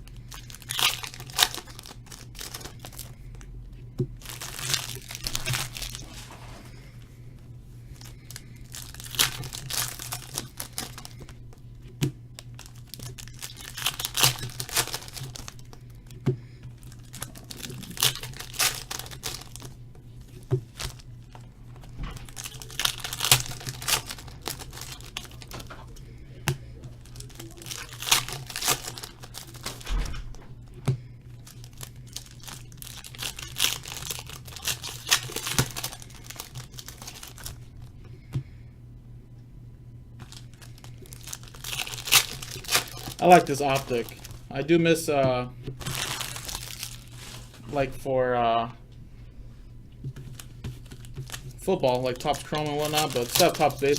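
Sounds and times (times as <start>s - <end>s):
steady low hum: 0.0s - 53.9s
foil wrappers tearing and crinkling: 0.1s - 3.4s, 4.2s - 6.8s, 7.9s - 11.3s, 12.4s - 15.8s, 16.8s - 30.4s, 31.0s - 37.6s, 40.2s - 44.7s, 45.8s - 47.9s, 50.2s - 53.9s.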